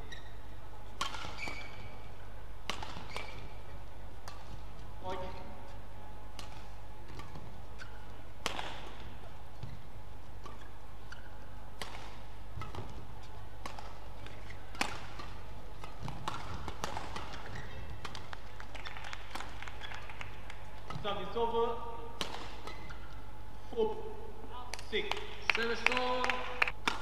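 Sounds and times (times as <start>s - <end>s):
low hum of hall: 0.0s - 27.0s
rackets striking shuttlecock: 0.8s - 23.3s, 26.7s - 27.0s.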